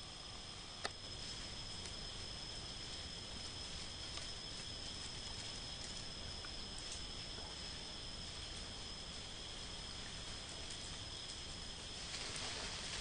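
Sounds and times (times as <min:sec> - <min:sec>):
faint ticks from leaf litter: 0:00.0 - 0:13.0
insects trilling: 0:00.0 - 0:13.0.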